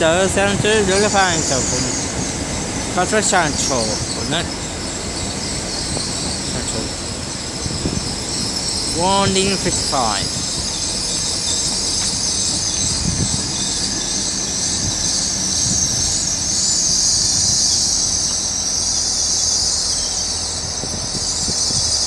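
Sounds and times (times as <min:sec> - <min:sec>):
low train rumble: 0:00.0 - 0:22.0
high-pitched wheel squeal: 0:00.8 - 0:22.0.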